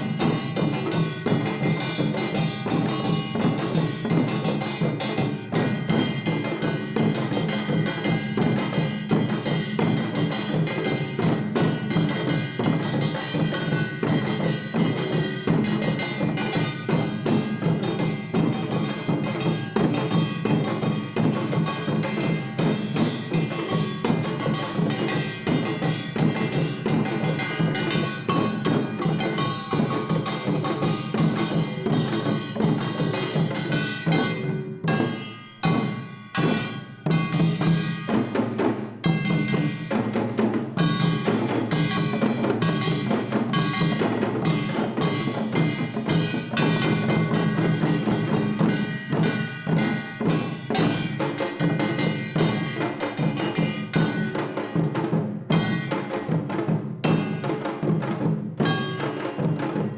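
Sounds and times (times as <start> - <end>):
drum strokes: 0.0 - 59.9.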